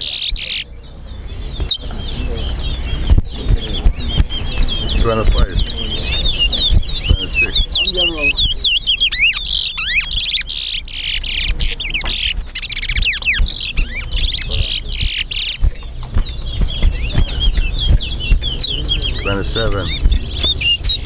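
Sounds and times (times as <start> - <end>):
bird singing gliding whistles: 0.0 - 21.0.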